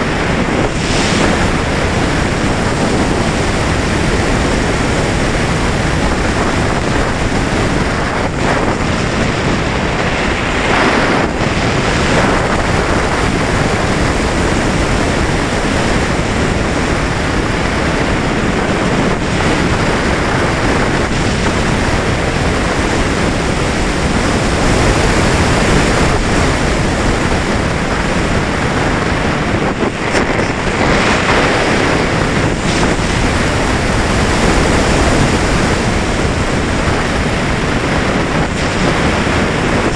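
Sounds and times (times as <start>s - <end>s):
rush of air over camera: 0.0s - 39.9s.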